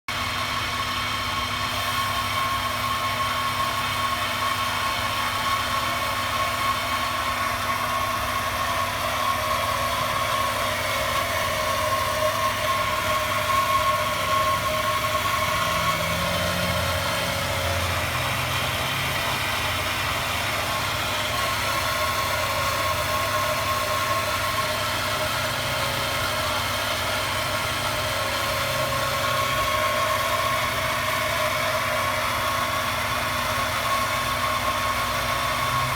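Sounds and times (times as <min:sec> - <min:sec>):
high-pitched engine whine: 0:00.1 - 0:35.9.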